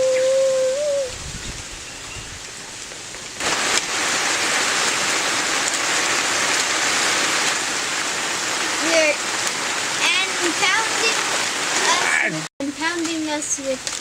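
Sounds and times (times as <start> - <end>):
hiss of falling water: 0.0 - 14.0.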